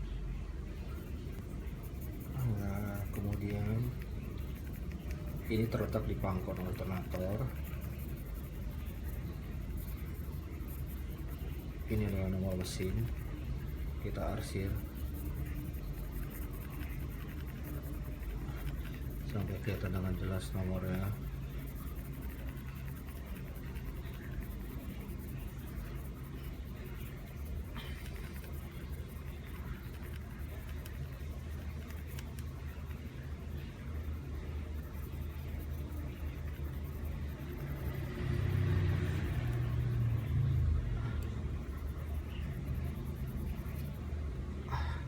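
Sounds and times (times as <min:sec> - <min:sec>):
low engine-like rumble: 0:00.0 - 0:45.0.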